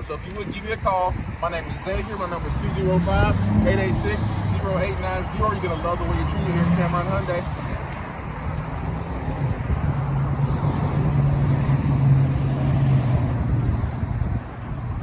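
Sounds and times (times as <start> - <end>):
road rumble: 0.0 - 15.0
vehicle engine hum: 0.0 - 15.0.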